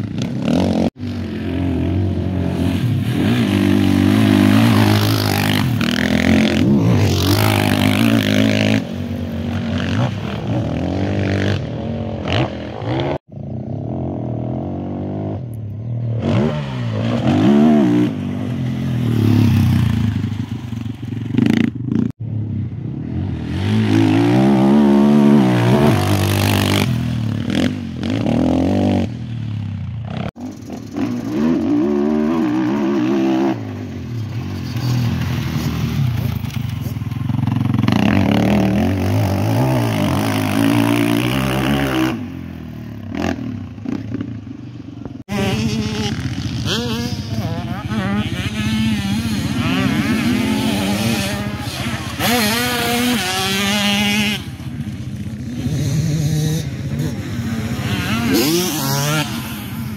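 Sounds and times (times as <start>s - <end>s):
motocross engines revving: 0.0s - 59.9s.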